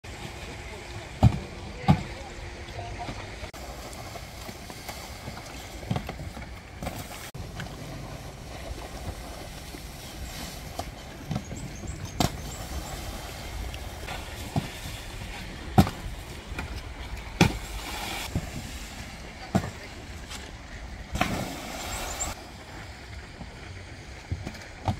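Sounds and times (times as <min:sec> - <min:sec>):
water: 0:00.0 - 0:24.9
wind: 0:00.0 - 0:24.9.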